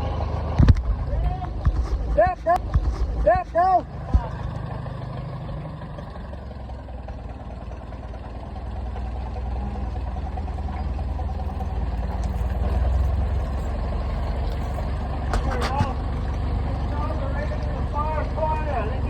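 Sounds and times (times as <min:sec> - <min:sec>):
low vehicle engine rumble: 0:00.0 - 0:19.0.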